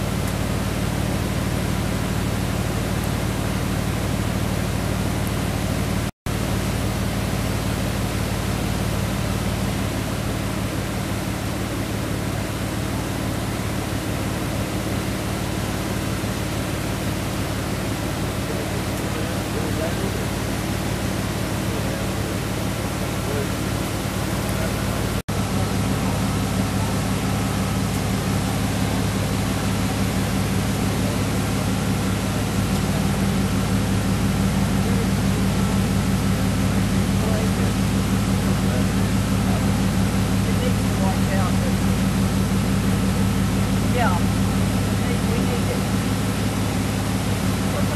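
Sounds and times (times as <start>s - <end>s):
roar of rushing floodwater: 0.0s - 47.9s
steady low hum: 0.0s - 47.9s.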